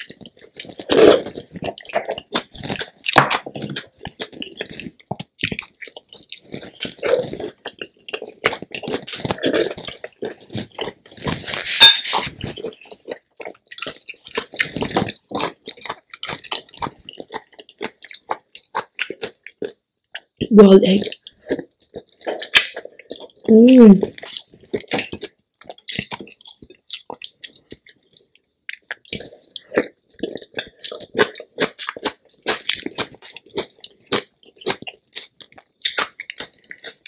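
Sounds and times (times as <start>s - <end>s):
chewing: 0.0s - 37.0s.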